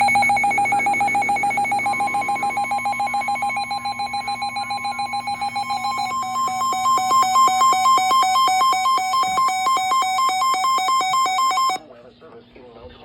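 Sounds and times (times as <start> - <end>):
rapid electronic beeping: 0.0 - 11.8
steady high alarm tone: 0.0 - 11.8
two-tone alternating beep: 0.0 - 11.8.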